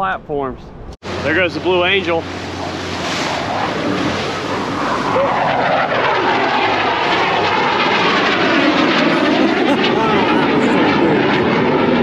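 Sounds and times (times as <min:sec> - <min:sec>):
jet engine roar: 0:00.8 - 0:12.0
boat running through chop: 0:01.1 - 0:11.1.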